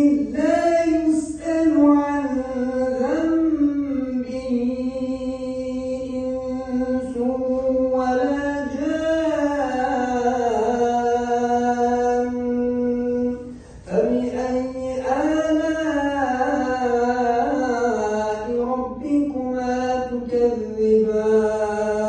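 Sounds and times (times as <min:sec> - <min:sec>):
man chanting melodic recitation: 0:00.0 - 0:22.0.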